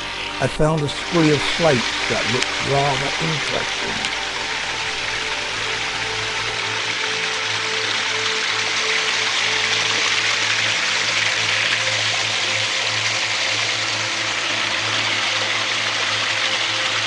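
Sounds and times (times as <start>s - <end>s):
low hum: 0.0s - 16.4s
stream water rushing: 0.0s - 17.0s.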